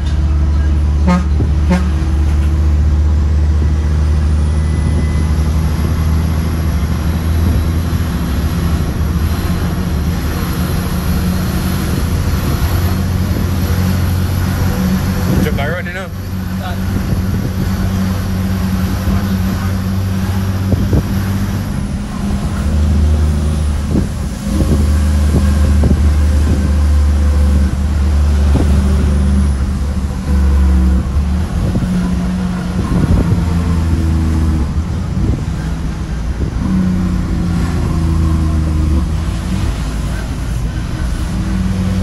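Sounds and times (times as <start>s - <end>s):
truck diesel engine shifting gears: 0.0s - 42.0s.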